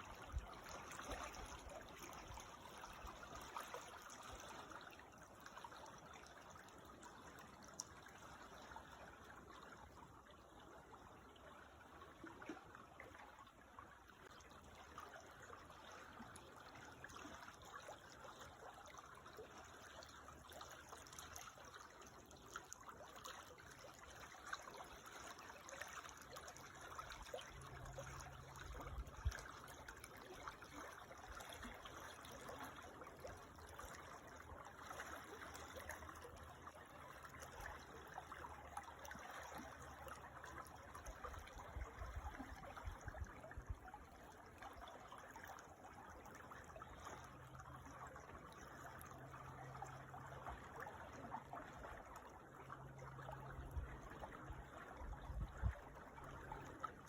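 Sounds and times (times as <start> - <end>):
creek water trickling over stones: 0.0 - 57.0.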